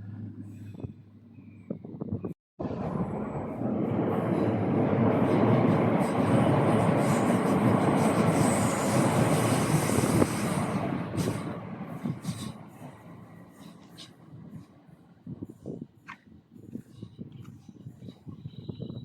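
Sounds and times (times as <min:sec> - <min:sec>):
train wheels on rails rushing: 0:02.6 - 0:19.0.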